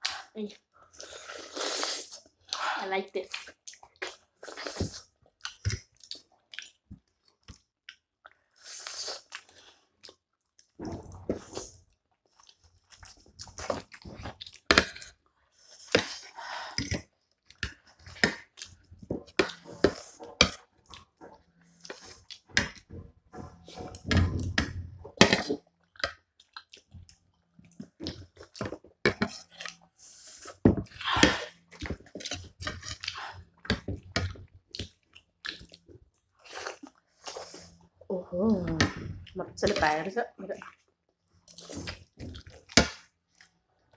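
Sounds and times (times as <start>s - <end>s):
person chewing: 0.9s - 2.6s, 3.3s - 22.9s, 25.2s - 37.9s, 41.5s - 43.5s.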